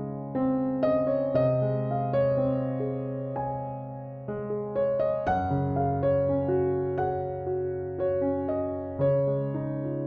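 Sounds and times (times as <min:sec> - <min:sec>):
gentle electric piano melody: 0:00.0 - 0:10.0.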